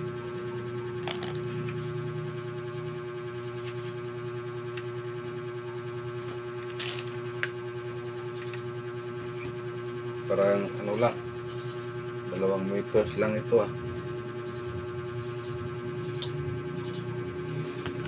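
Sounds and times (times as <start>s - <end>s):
steady droning hum: 0.0s - 18.0s.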